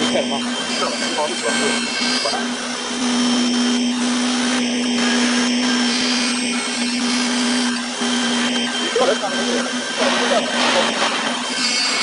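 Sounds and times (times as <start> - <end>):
milling machine hissing and humming: 0.0 - 12.0.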